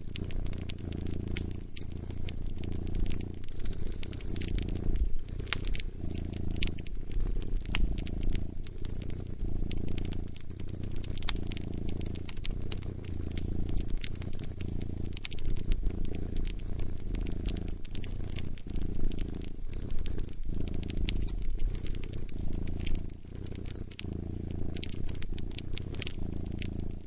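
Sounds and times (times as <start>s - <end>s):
cat purring: 0.0s - 27.0s
wood fire crackling: 0.0s - 27.0s.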